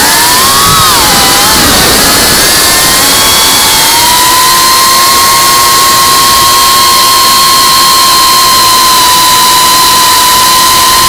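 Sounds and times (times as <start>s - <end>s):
drone motors whining: 0.0s - 11.0s
wind rushing hiss: 0.0s - 11.0s.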